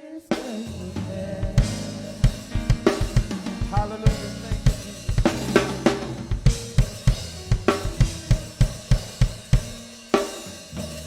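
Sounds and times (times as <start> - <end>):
drum kit beat: 0.3 - 11.0
gospel band playing: 0.3 - 11.0.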